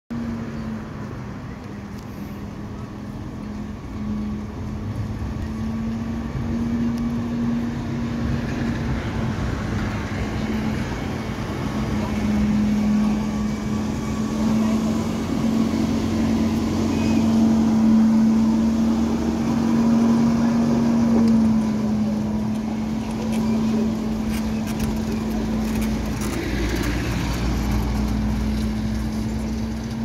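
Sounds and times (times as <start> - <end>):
street traffic: 0.1 - 30.0
trolleybus pulling out and driving: 0.1 - 30.0.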